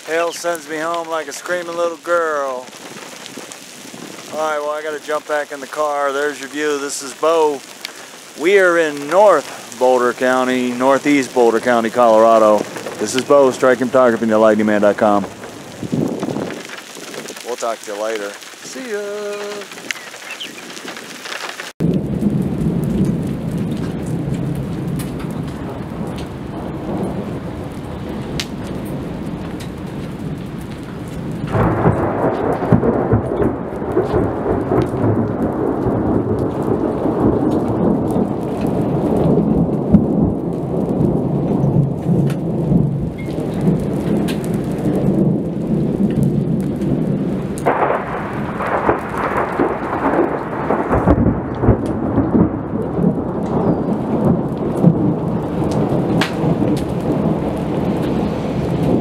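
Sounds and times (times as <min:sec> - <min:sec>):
rain falling: 0:00.0 - 0:59.0
thunder rumbling: 0:00.0 - 0:59.0.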